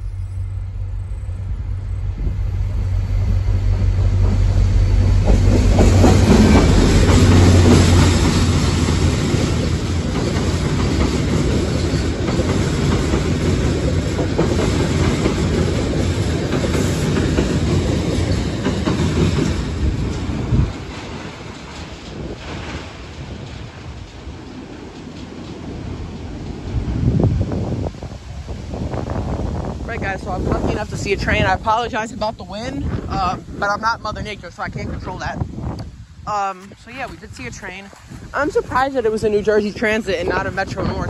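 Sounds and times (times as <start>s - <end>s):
diesel locomotive rumble: 0.0s - 41.0s
train coaches running over rails: 0.0s - 41.0s.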